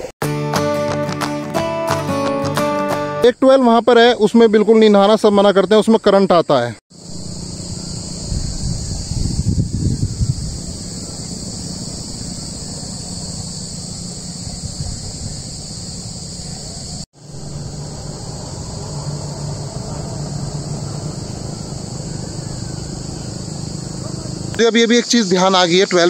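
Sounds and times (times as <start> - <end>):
insect chorus: 3.2 - 26.0.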